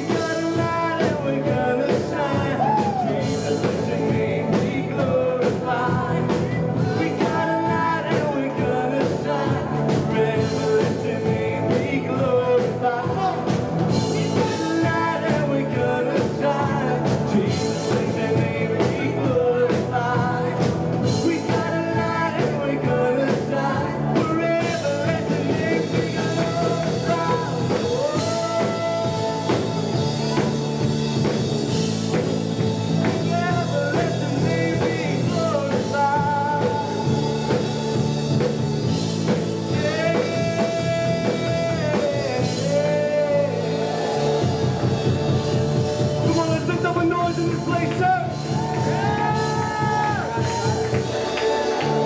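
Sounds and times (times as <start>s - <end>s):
person singing lead vocals: 0.0s - 52.0s
rock band playing: 0.0s - 52.0s.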